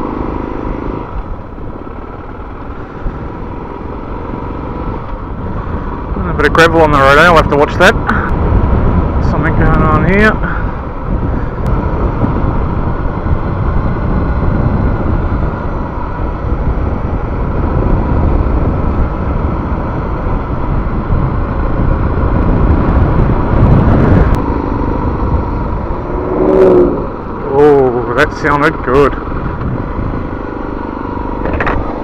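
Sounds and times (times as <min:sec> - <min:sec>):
motorcycle engine running: 0:00.0 - 0:32.0
rush of riding noise: 0:00.0 - 0:32.0.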